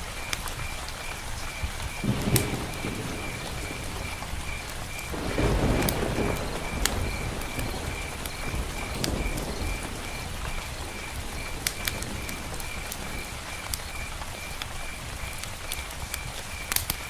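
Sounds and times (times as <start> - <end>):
sharp drip ticks: 0.0 - 17.0
steady rain: 0.0 - 17.0
thunder rumble: 1.0 - 17.0.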